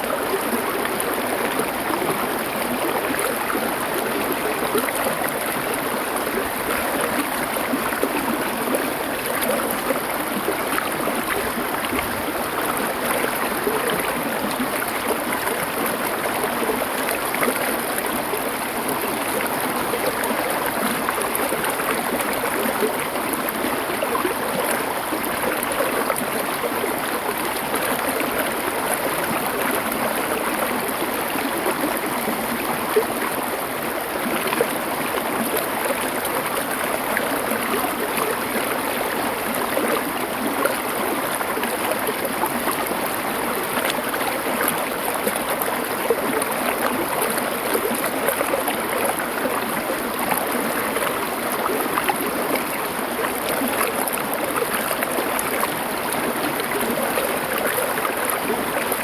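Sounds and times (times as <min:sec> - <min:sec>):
river running over stones: 0:00.0 - 0:59.0.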